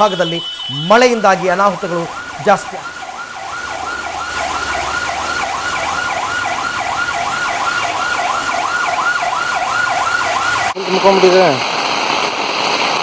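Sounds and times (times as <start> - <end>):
siren yelping: 0.0 - 10.8.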